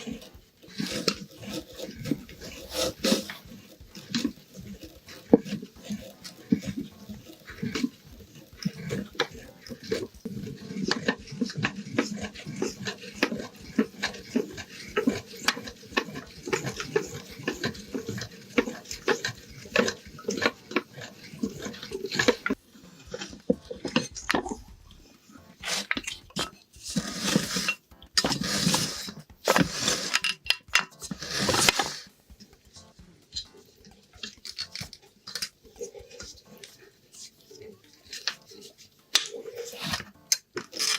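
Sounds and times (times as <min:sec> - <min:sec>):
meat grinder crushing soap: 0:00.0 - 0:25.0, 0:25.6 - 0:40.9.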